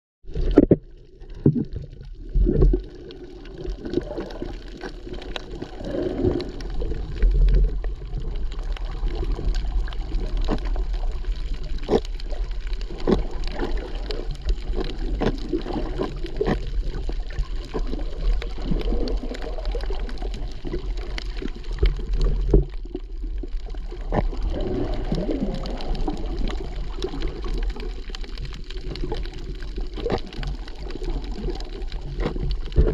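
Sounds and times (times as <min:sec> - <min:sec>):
water splashing from swimming: 0:00.3 - 0:32.9.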